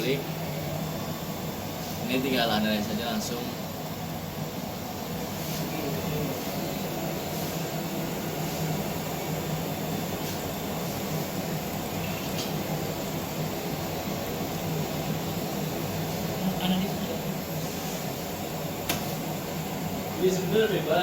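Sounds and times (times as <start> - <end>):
equipment and ventilation hum: 0.0 - 21.0.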